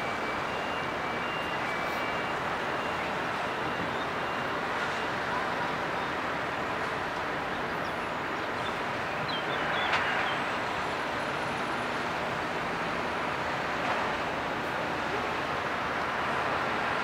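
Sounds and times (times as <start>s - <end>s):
diesel lorries driving: 0.0s - 17.0s.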